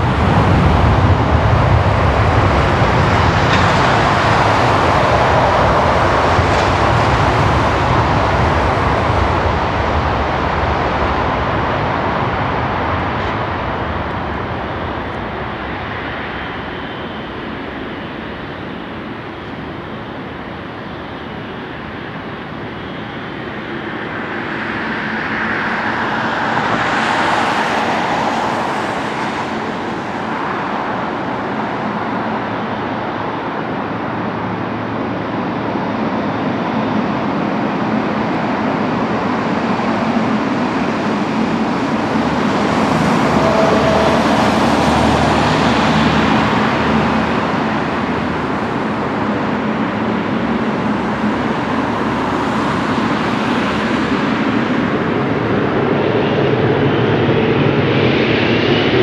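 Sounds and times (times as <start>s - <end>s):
jet engines taxiing rumble and hiss: 0.0s - 59.0s.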